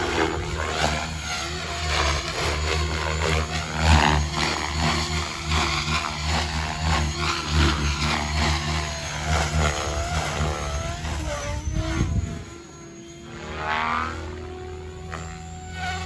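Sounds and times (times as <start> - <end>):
model helicopter rotor humming: 0.0 - 16.0.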